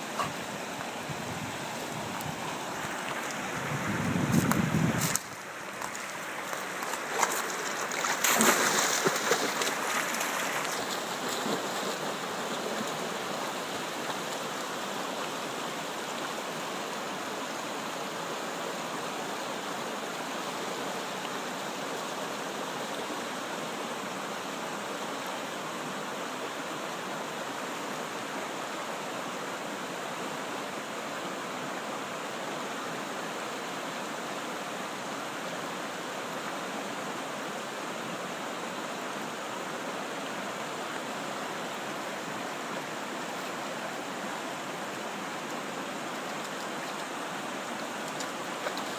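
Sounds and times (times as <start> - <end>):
stream babbling over stones: 0.0 - 48.9.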